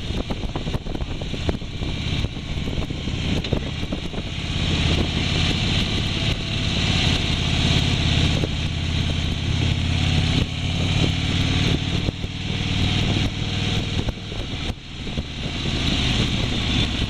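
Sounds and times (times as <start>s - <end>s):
continuous rushing noise: 0.0s - 17.0s
motorcycle engine running: 0.0s - 17.0s.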